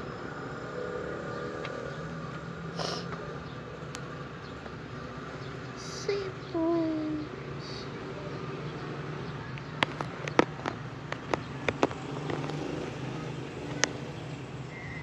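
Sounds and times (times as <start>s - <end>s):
street traffic hum: 0.0s - 15.0s.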